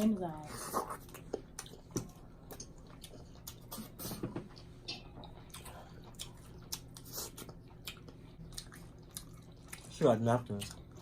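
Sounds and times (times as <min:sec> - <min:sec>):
chewing: 0:00.5 - 0:11.0.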